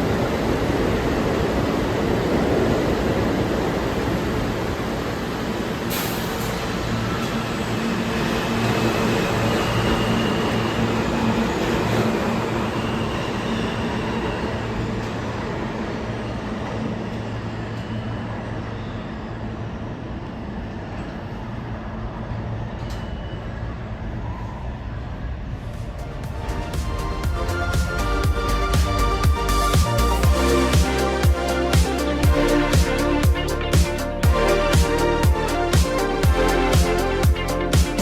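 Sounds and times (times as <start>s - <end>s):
subway train rumble: 0.0s - 38.0s.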